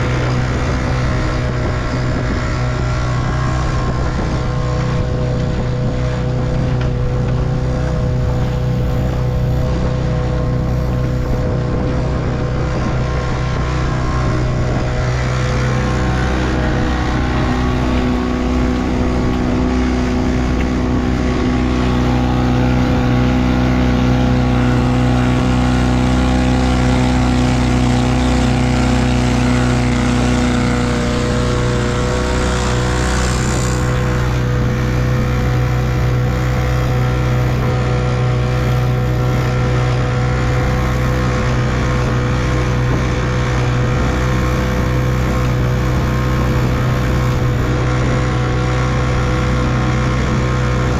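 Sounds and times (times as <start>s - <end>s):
outboard motor running: 0.0s - 50.9s.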